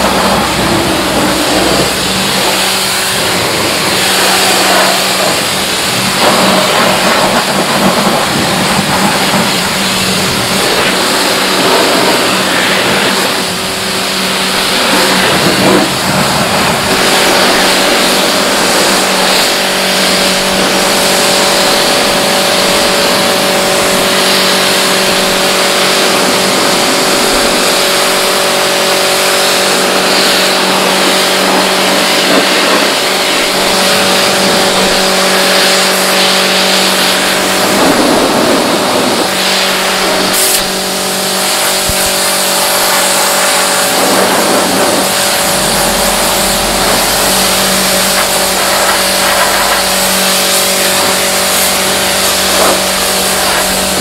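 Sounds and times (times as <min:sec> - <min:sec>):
pressure washer motor hum: 0:00.0 - 0:54.0
water jet hissing: 0:00.0 - 0:54.0.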